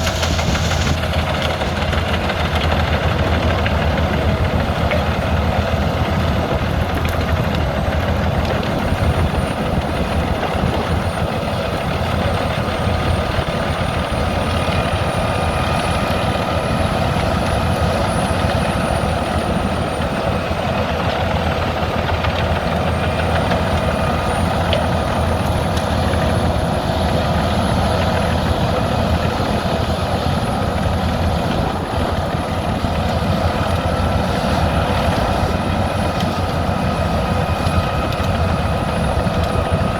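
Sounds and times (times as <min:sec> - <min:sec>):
wood chipper droning: 0:00.0 - 0:39.9.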